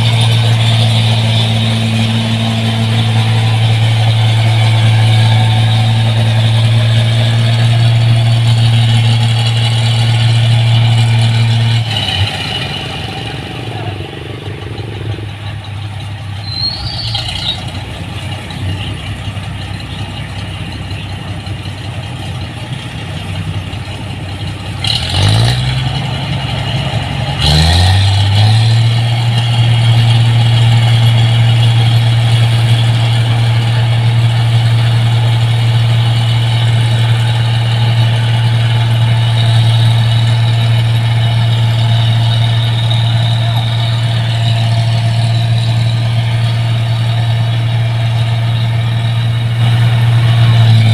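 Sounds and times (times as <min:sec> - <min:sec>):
engine clatter: 0:00.0 - 0:50.9
harvester diesel engine revving: 0:00.0 - 0:50.9.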